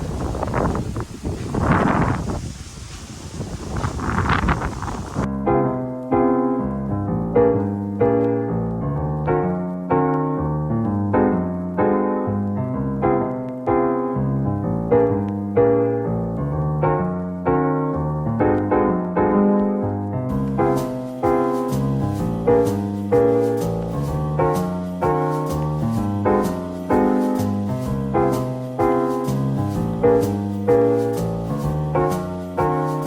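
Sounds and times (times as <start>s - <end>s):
solo piano piece: 0.0s - 33.0s.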